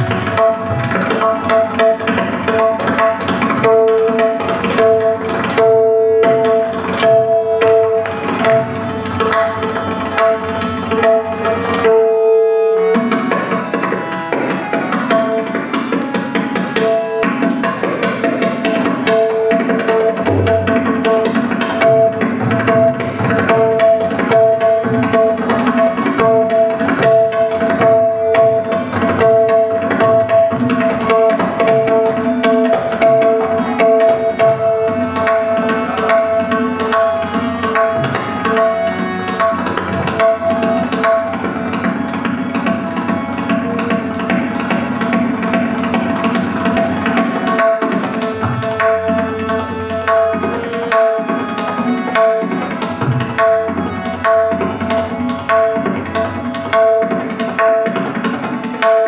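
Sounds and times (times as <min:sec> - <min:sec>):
harmonium melody: 0:00.0 - 0:59.0
tabla strokes: 0:00.0 - 0:59.0.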